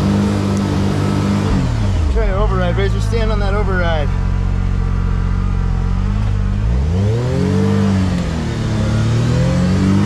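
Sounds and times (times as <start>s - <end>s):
engine idling and revving: 0.0s - 10.0s.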